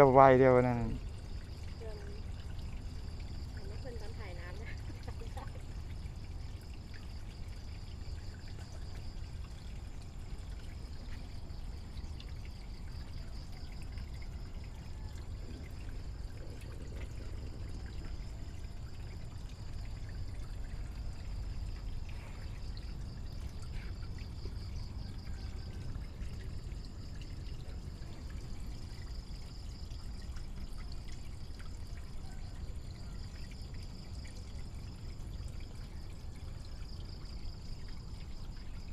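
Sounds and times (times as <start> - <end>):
water pouring and trickling: 0.0 - 38.9.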